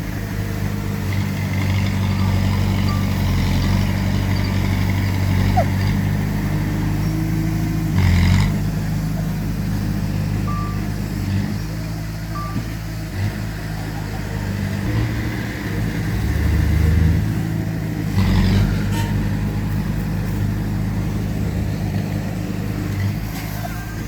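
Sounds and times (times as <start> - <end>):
heavy diesel engines under load: 0.0 - 24.0.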